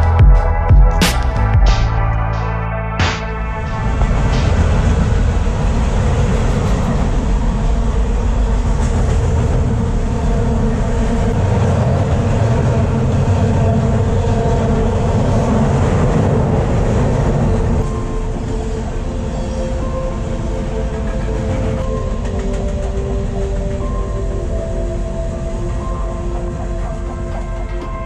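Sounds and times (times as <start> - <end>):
freight train crossing a steel bridge: 0.0 - 28.0.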